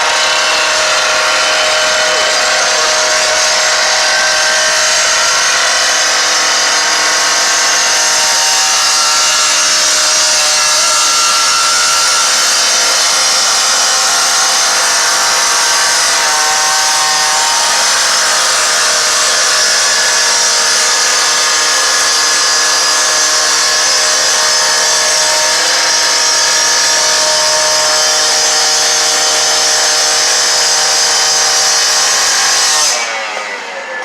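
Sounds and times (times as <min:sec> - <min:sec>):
power saw cutting metal: 0:00.0 - 0:34.0.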